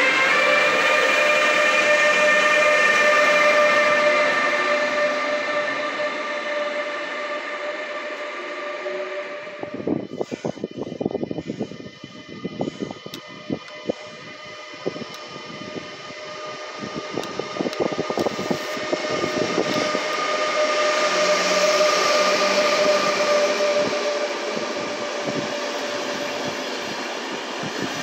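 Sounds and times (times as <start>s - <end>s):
locomotive whine: 0.0s - 28.0s
train rushing past: 0.0s - 28.0s.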